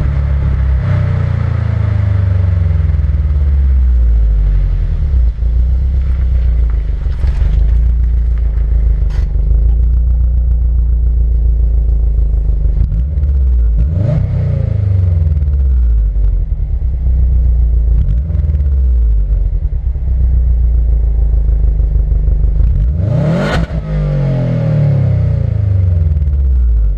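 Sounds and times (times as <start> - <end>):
car engine revving: 0.0 - 26.9
road noise: 0.0 - 26.9.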